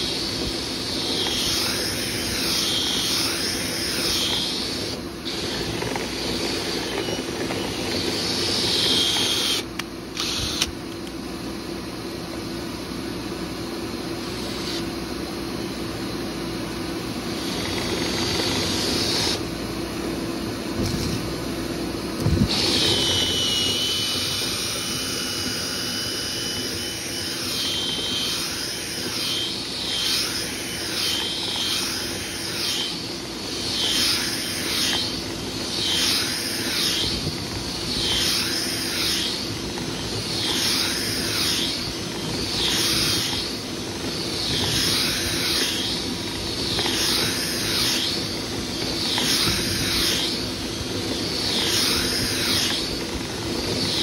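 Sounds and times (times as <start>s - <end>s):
motor hum: 0.0s - 54.0s.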